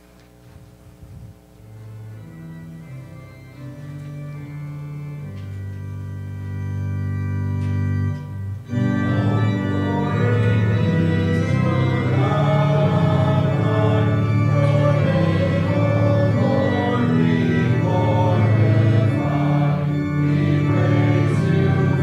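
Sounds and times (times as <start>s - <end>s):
church organ chords: 0.9s - 22.0s.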